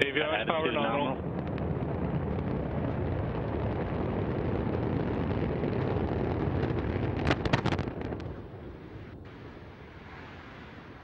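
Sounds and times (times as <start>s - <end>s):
deep rocket rumble: 0.0s - 11.0s
explosion cracks and bangs: 1.0s - 10.4s.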